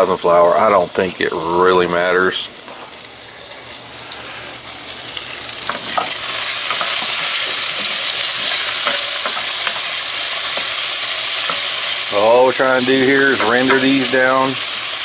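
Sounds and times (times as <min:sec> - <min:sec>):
pork sizzling in hot fat: 0:00.0 - 0:15.0.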